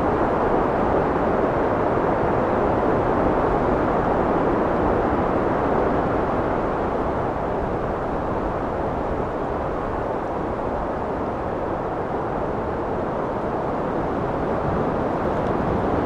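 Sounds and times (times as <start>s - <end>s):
steady wind blowing: 0.0s - 16.0s.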